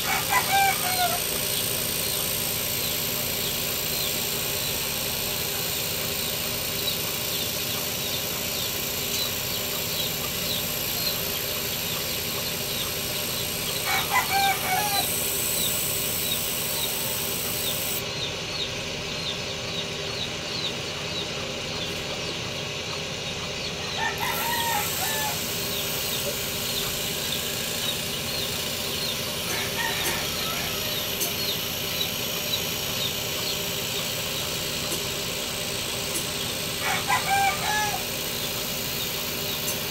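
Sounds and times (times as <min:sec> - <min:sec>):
roosters crowing: 0:00.0 - 0:18.0, 0:23.6 - 0:34.9, 0:35.6 - 0:39.9
constant high chirping: 0:00.0 - 0:39.9
steady hum: 0:00.0 - 0:39.9.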